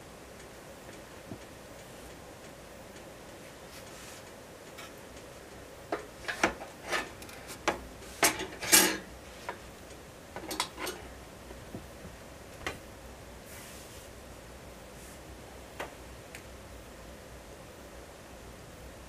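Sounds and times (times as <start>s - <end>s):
wood fire crackling in a stove: 0.0s - 19.0s.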